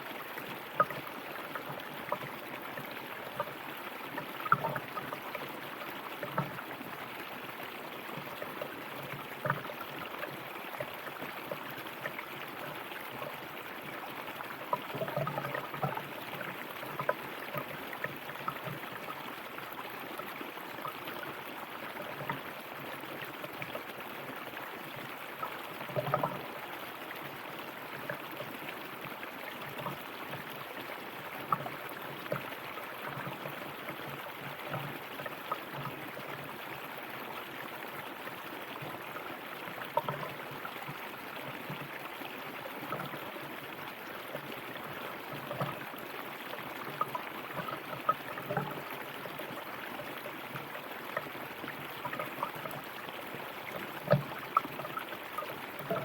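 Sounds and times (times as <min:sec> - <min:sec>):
river water flowing: 0:00.0 - 0:56.0
water gurgles and splashes: 0:00.0 - 0:56.0.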